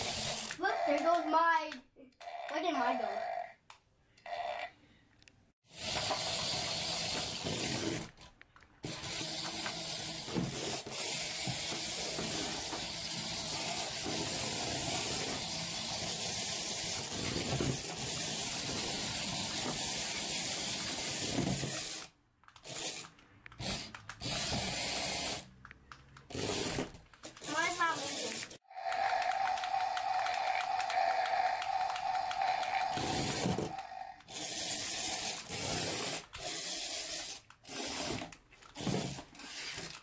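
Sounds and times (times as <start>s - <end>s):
toy motor hissing: 0.0s - 1.6s, 5.7s - 8.2s, 8.8s - 25.5s, 26.3s - 40.0s.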